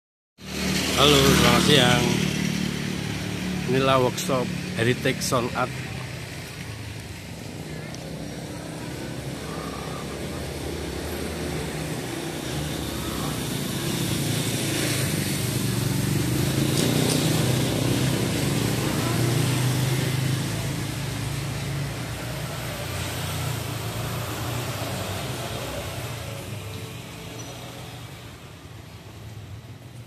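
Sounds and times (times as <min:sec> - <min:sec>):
vehicle engine passing: 0:00.4 - 0:28.0.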